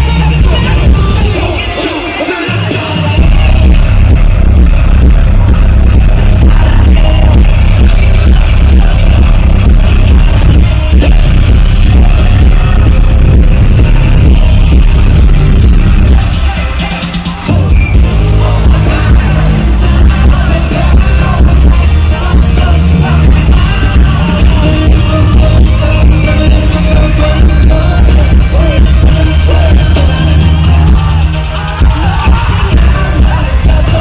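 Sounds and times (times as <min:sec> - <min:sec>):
heavy bass beat: 0:00.0 - 0:34.0
live pop song with singing: 0:00.0 - 0:34.0.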